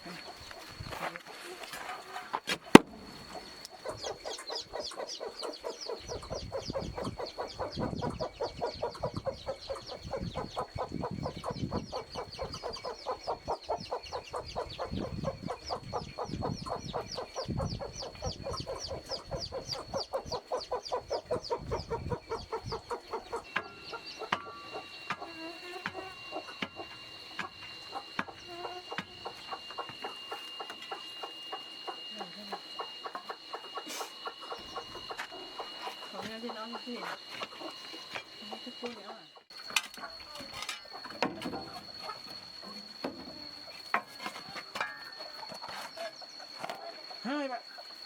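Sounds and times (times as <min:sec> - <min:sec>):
chickens clucking: 0:00.0 - 0:48.0
faint high whine: 0:00.0 - 0:48.0.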